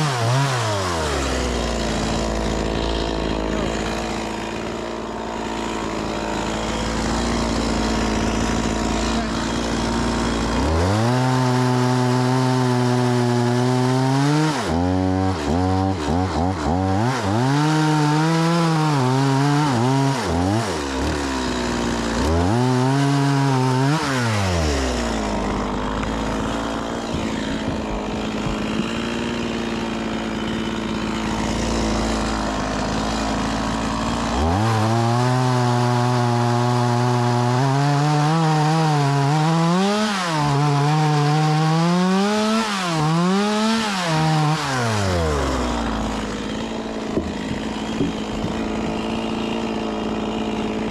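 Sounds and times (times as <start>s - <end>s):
chainsaw cutting logs: 0.0s - 50.9s.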